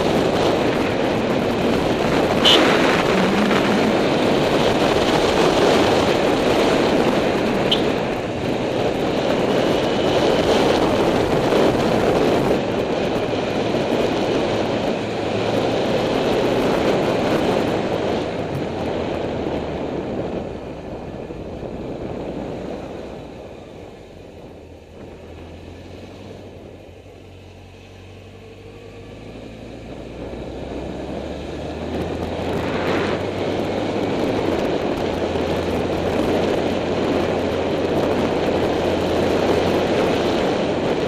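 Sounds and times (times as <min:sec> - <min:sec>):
faint motorcycle engine hum: 0:00.0 - 0:41.0
wind rushing over microphone: 0:00.0 - 0:41.0.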